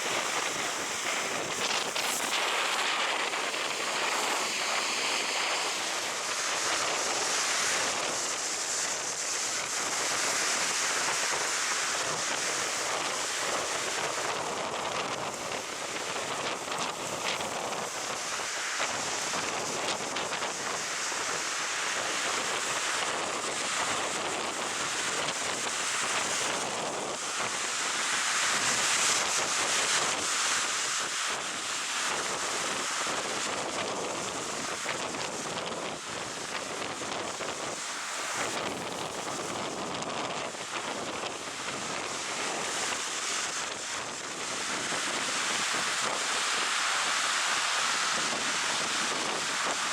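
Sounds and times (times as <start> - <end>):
surf breaking on beach: 0.0 - 49.9.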